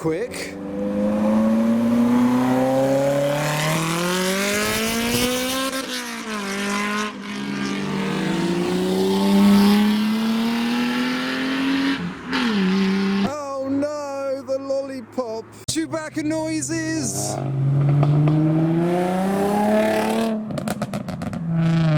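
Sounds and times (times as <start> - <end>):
car engine accelerating hard: 0.4 - 13.3, 17.1 - 21.9.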